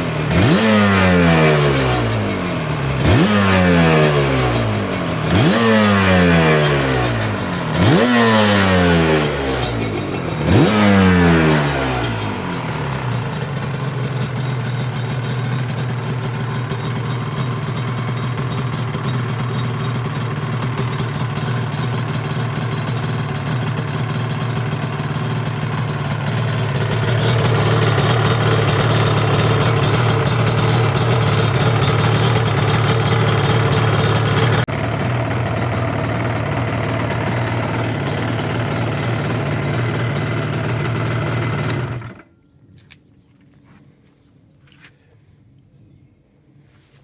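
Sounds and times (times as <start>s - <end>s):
two-stroke engine running: 0.0s - 42.3s.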